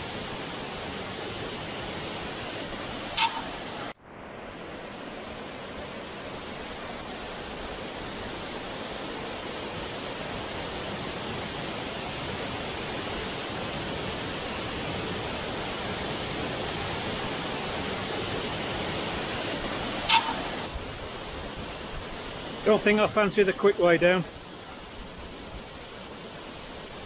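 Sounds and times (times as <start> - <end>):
waterfall rushing water: 0.0 - 27.0.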